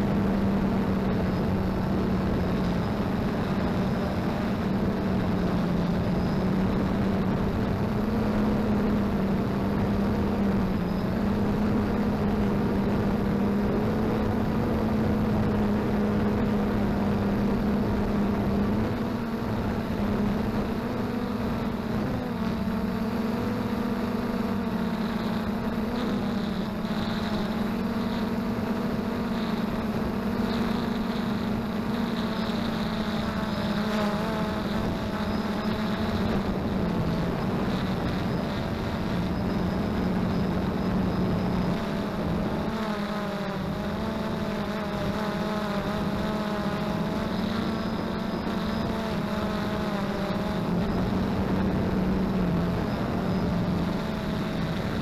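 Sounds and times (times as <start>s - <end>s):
quadcopter motors humming: 0.0s - 55.0s
wind rumble on microphone: 0.0s - 55.0s.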